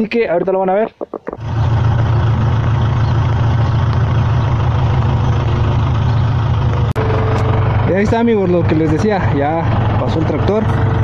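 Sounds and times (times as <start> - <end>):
tractor diesel engine running: 1.2 - 11.0.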